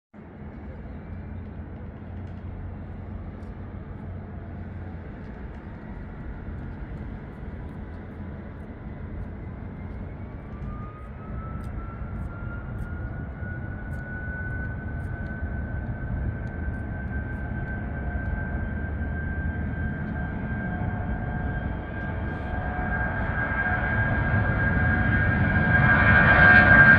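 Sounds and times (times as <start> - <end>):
jet engines rumbling: 0.2 - 26.9
jet engine whine rising: 0.4 - 26.9.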